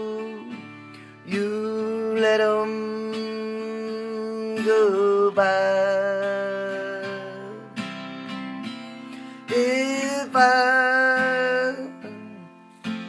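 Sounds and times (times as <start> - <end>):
man singing a slow ballad: 0.0 - 13.0
strummed acoustic guitar: 0.0 - 13.0.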